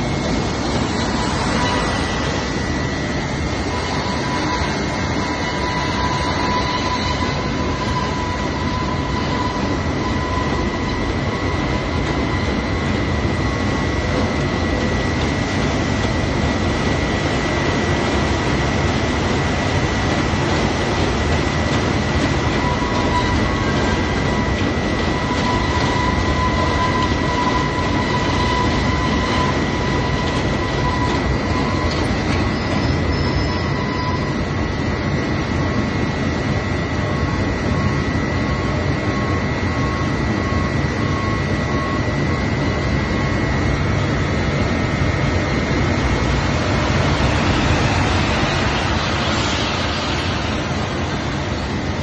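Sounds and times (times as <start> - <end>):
high whine: 0.0 - 52.0
industrial machinery running: 0.0 - 52.0.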